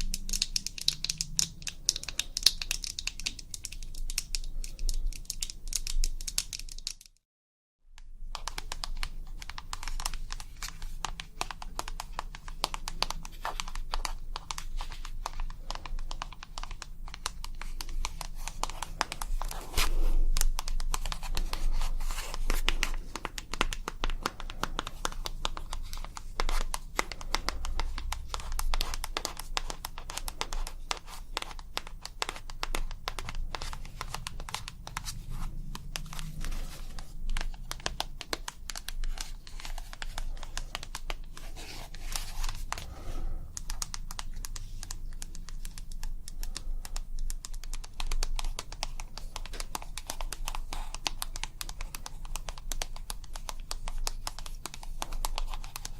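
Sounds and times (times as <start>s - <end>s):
asmr tapping and crinkling: 0.0s - 7.2s, 8.0s - 55.9s.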